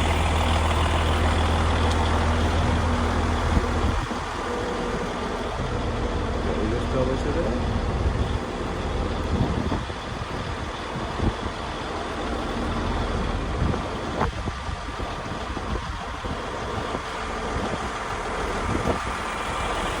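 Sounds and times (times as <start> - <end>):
crane engine humming: 0.0 - 20.0.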